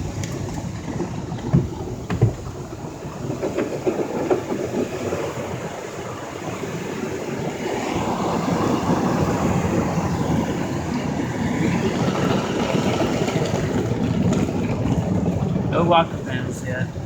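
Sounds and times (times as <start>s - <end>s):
automatic car wash rushing: 0.0s - 17.0s.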